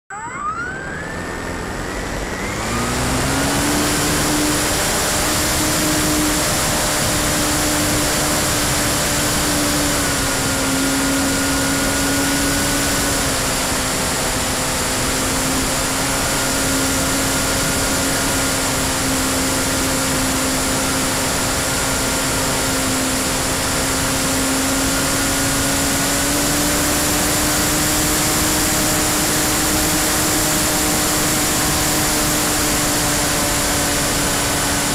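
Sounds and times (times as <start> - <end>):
electric motor whine: 0.1 - 34.9
propeller wash and wind rush: 0.6 - 34.9.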